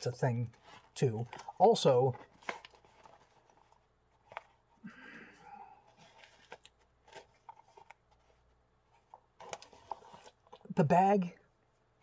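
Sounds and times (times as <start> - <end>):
nylon pouch rustling: 0.5 - 10.7.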